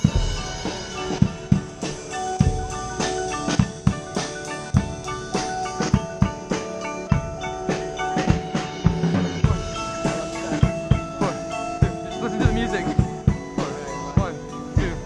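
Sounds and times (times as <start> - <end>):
drumline beat: 0.0 - 15.0
marching band playing: 0.0 - 15.0.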